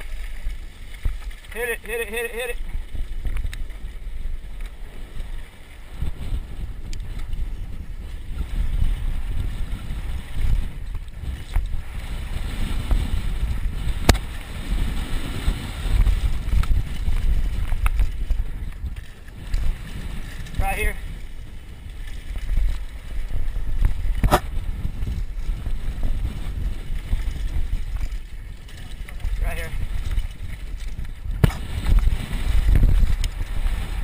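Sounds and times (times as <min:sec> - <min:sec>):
bike rattling over dirt trail: 0:00.0 - 0:34.0
wind buffeting microphone: 0:00.0 - 0:34.0.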